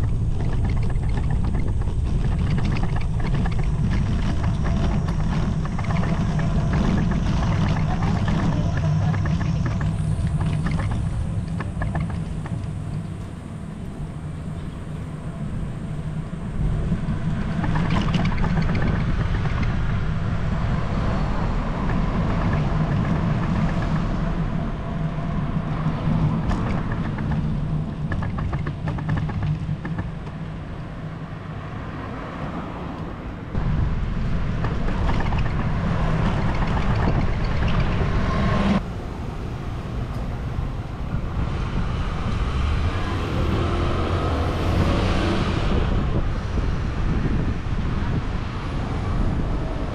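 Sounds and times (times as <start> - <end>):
road and traffic noise: 0.0 - 49.9
wind rumble on microphone: 0.0 - 49.9.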